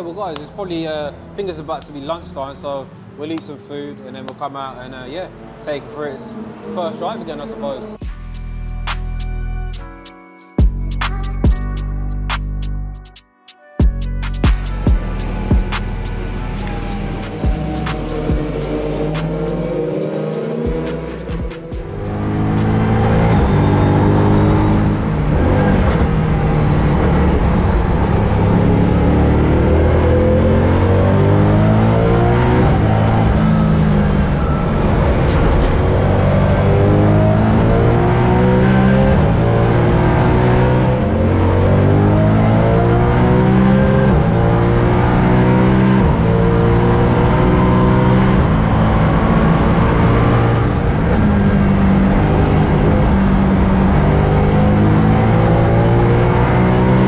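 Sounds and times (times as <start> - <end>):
car engine accelerating hard: 0.0 - 8.0, 14.5 - 57.0.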